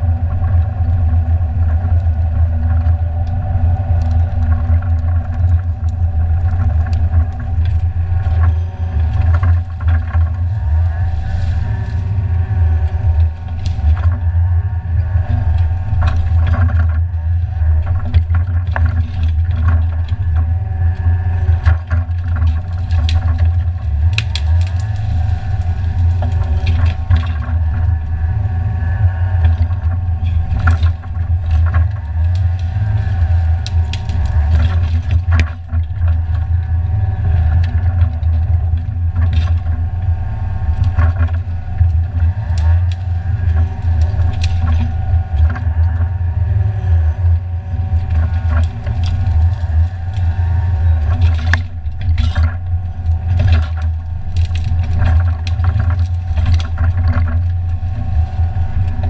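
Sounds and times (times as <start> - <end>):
branches snapping and cracking: 0.0 - 59.0
diesel engine running under load: 0.0 - 59.0.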